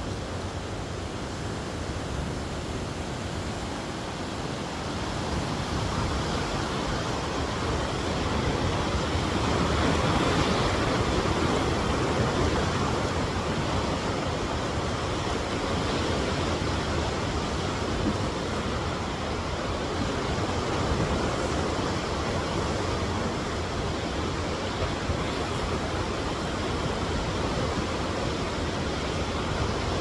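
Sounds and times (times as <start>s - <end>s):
whitewater rushing: 0.0s - 30.0s.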